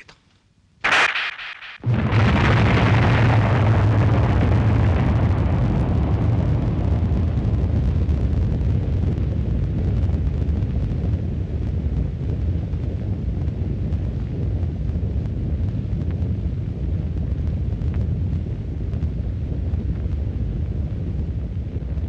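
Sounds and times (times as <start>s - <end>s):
explosion blast with low rumble: 0.8s - 22.0s.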